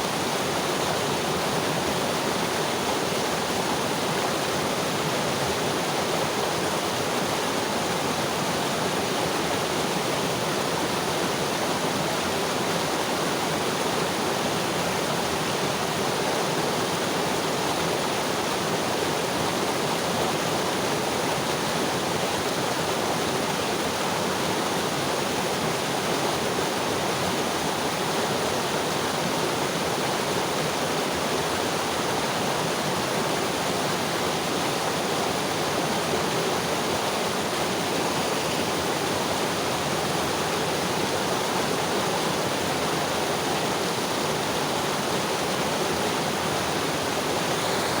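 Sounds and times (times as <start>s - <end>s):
river flowing over rocks: 0.0s - 48.0s.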